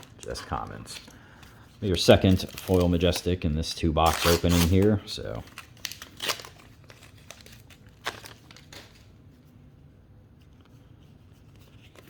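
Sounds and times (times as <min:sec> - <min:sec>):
cards rustling: 0:00.0 - 0:09.4, 0:10.5 - 0:12.0.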